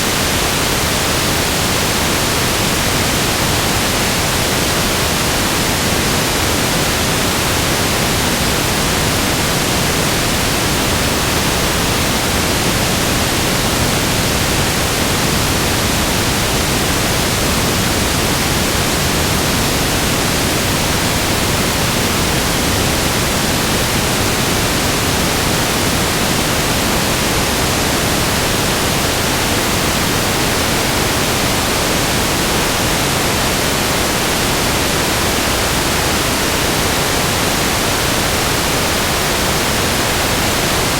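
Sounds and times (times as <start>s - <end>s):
loud static hiss: 0.0s - 40.9s.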